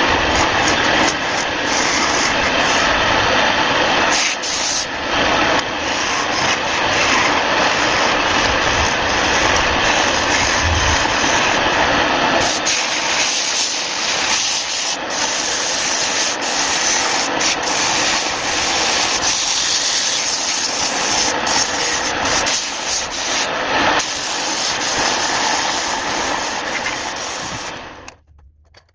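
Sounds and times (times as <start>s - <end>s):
wood being sanded: 0.0s - 27.8s.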